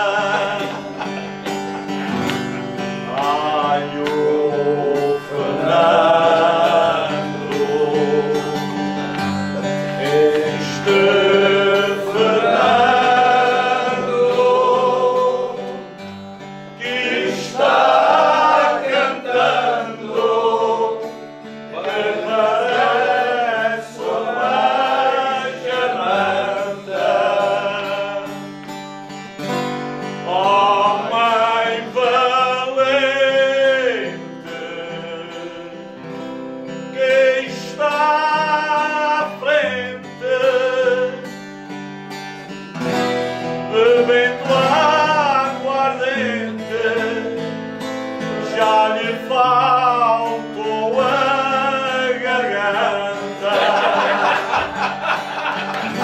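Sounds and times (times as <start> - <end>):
man singing with vibrato: 0.0 - 2.2, 2.9 - 16.1, 16.7 - 28.5, 30.2 - 41.4, 43.5 - 56.0
acoustic guitar: 0.0 - 56.0.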